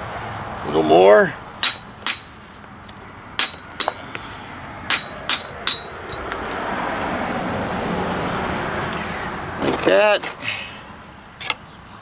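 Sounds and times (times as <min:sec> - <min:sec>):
rushing background noise: 0:00.0 - 0:12.0.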